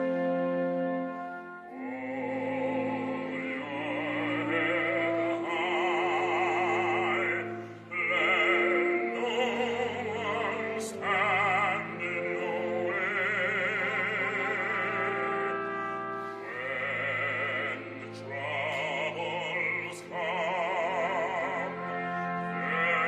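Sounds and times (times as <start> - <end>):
operatic singing: 0.0 - 23.0.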